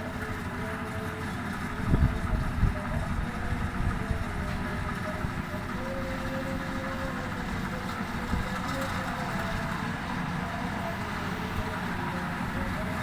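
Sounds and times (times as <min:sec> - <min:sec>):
harvesting machine engine running: 0:00.0 - 0:13.0.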